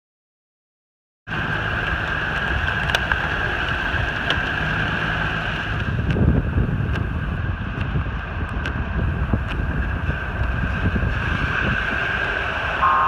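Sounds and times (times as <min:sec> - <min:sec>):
heavy rain: 0:01.3 - 0:13.0
vehicle rumble: 0:01.3 - 0:13.0.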